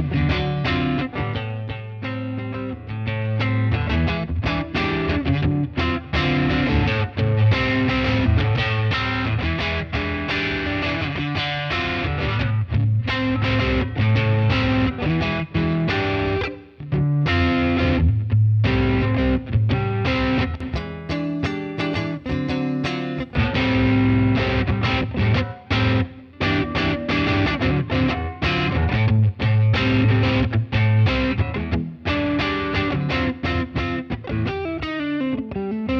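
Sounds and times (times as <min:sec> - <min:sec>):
overdriven electric guitar: 0:00.0 - 0:35.9.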